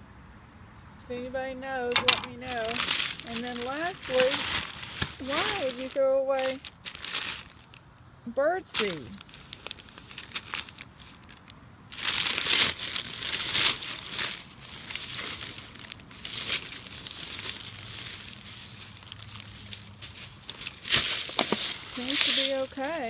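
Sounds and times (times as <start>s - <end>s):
birdseed bag rustling: 1.9s - 7.8s, 8.6s - 23.0s.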